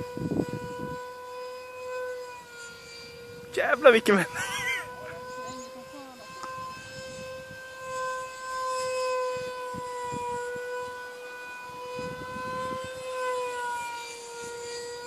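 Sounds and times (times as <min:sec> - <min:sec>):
model jet fan whining: 0:00.0 - 0:15.0.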